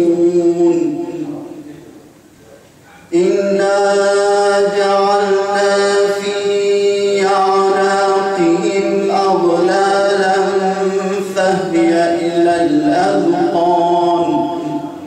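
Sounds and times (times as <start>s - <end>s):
man chanting melodically: 0.0s - 2.2s, 2.8s - 15.0s.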